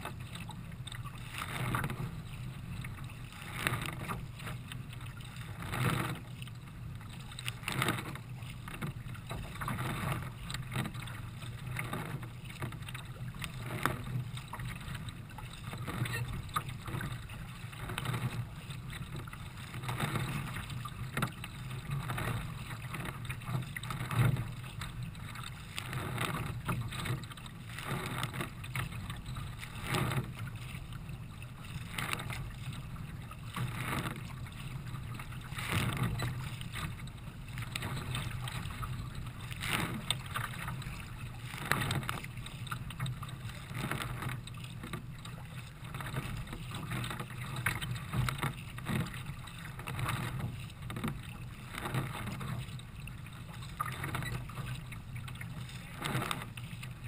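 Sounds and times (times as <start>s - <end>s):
paddle strokes splashing: 0.0s - 57.0s
water washing against hull: 0.0s - 57.0s.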